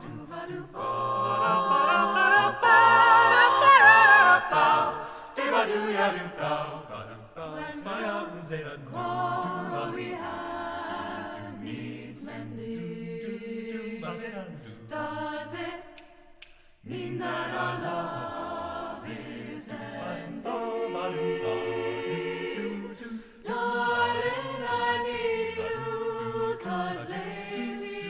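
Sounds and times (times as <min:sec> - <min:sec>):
a cappella group singing: 0:00.0 - 0:28.0.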